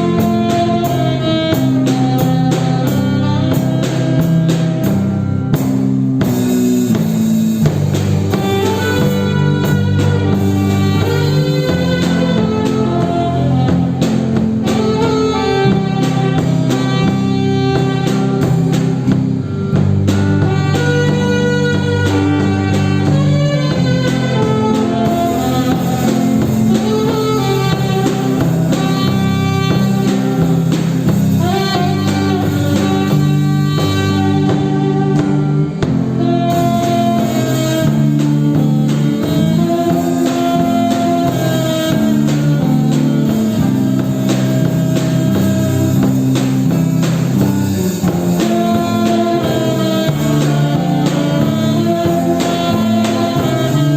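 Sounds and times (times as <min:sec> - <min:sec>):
band playing instrumental: 0:00.0 - 0:53.9.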